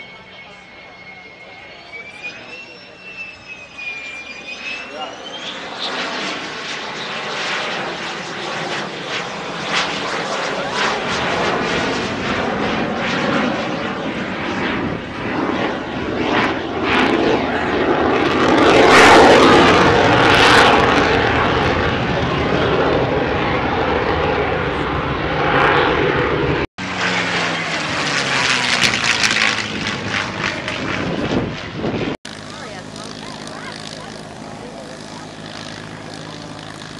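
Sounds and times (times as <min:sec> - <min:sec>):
jet engine roaring: 0:00.0 - 0:36.9.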